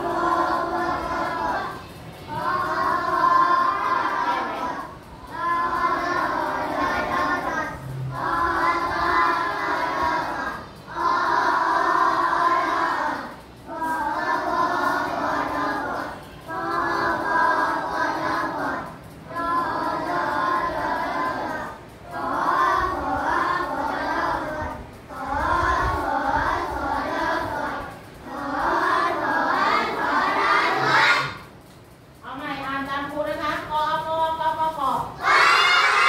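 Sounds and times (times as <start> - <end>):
children chanting in unison: 0.0 - 31.6, 35.1 - 36.0.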